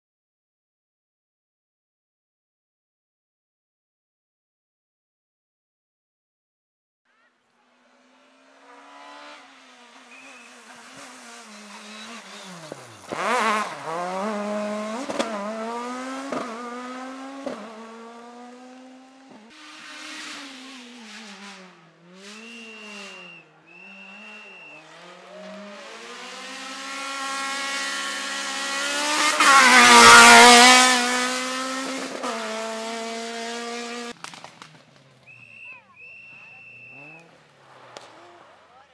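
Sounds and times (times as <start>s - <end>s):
rally car engines revving: 7.2s - 38.9s.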